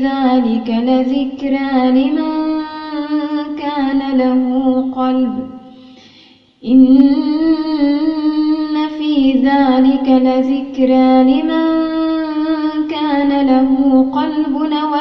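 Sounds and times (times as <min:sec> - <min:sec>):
woman chanting recitation: 0:00.0 - 0:05.8, 0:06.6 - 0:15.0.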